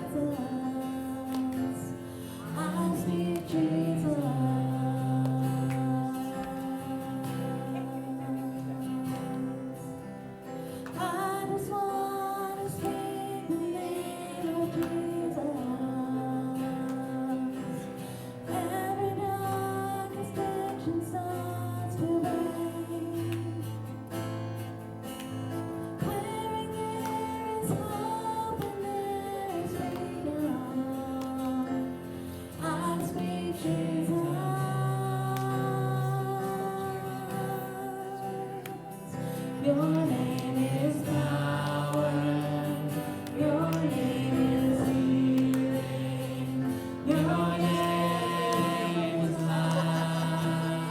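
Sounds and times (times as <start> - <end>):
woman singing: 0.0 - 24.1, 26.0 - 50.9
guitar accompaniment: 0.0 - 50.9.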